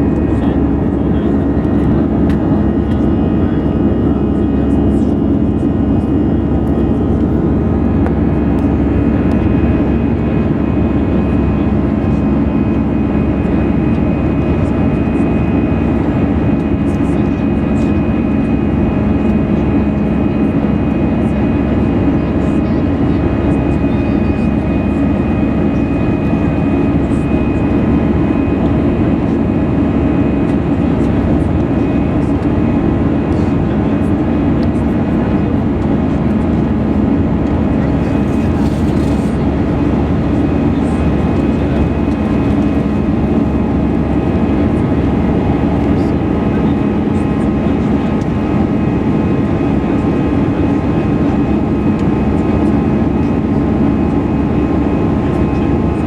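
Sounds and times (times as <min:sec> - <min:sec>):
high engine whine: 0:00.0 - 0:56.0
jet engine rumble in cabin: 0:00.0 - 0:56.0.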